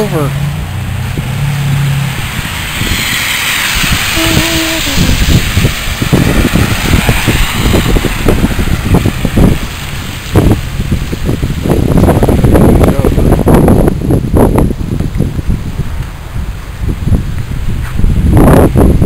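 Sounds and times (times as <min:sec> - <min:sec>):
snowstorm wind hissing: 0:00.0 - 0:19.0
wind buffeting microphone: 0:00.0 - 0:19.0.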